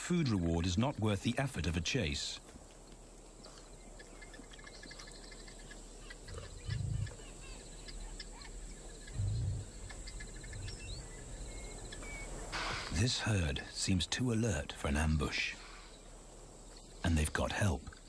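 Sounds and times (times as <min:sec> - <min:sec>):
small chirps and ticks: 0:00.0 - 0:12.5, 0:15.1 - 0:18.0
insect hiss: 0:00.0 - 0:18.0.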